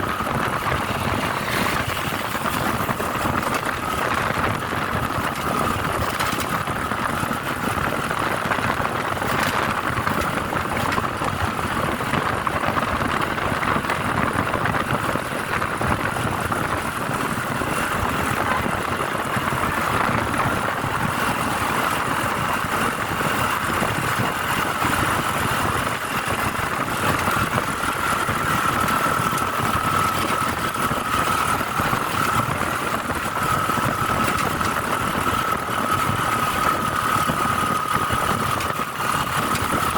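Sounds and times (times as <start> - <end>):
steady whine: 0.0 - 39.9
vehicle road and engine noise: 0.0 - 39.9.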